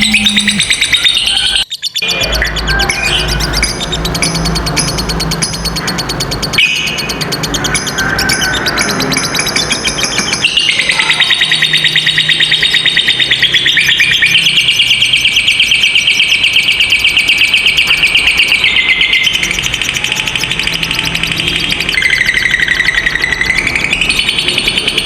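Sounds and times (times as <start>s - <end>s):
lovebird chattering trill: 0.0s - 2.0s, 2.6s - 25.0s.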